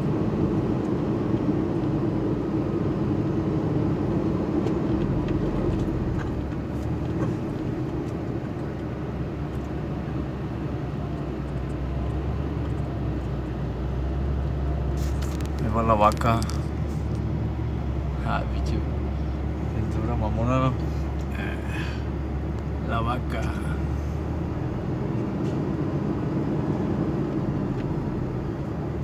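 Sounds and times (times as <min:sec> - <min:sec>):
road rumble: 0:00.0 - 0:29.0
vehicle engine drone: 0:00.0 - 0:29.0.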